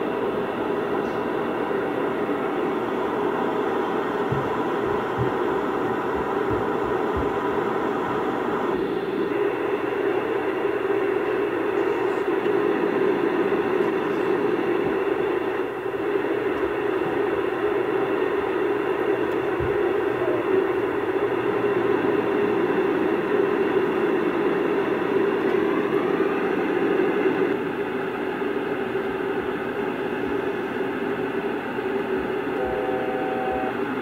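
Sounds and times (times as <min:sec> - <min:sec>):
airliner cabin drone: 0:00.0 - 0:34.0.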